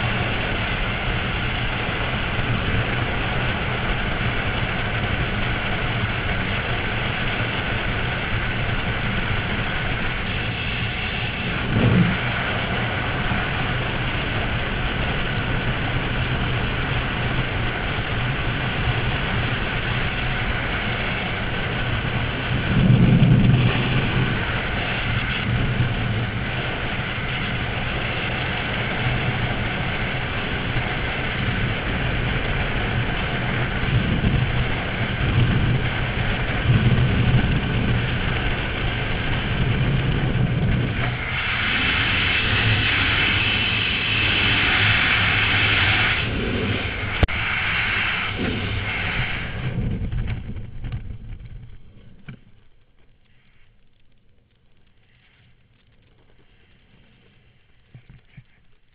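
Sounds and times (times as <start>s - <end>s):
wind rushing over microphone: 0.0s - 52.6s.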